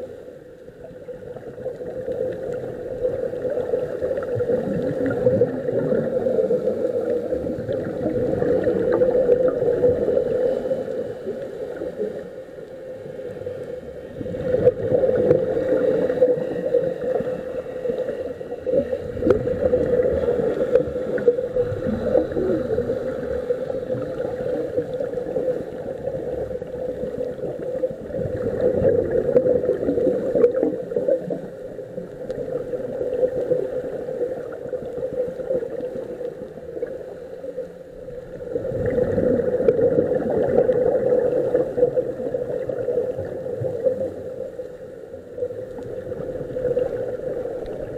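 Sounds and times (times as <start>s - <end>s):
underwater regulator bubbles gurgling: 0.0s - 47.9s.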